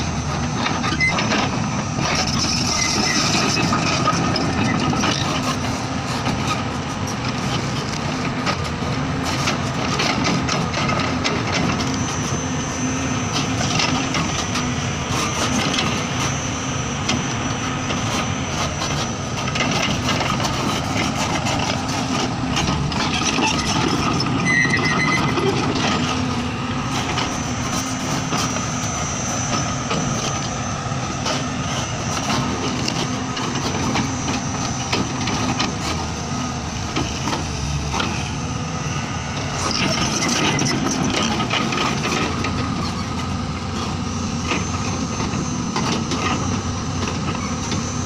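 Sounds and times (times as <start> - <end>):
excavator diesel engine: 0.0 - 48.0
hydraulic whine: 0.0 - 48.0.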